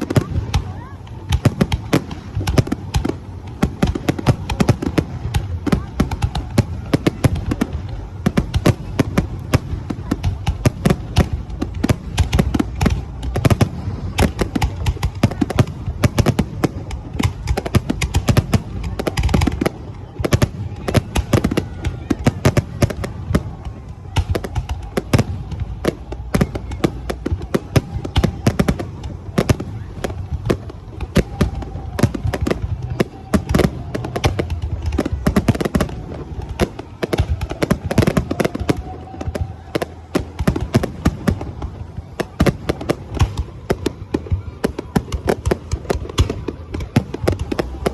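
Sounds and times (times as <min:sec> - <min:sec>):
fireworks bursts and crackling bangs: 0:00.0 - 0:47.9.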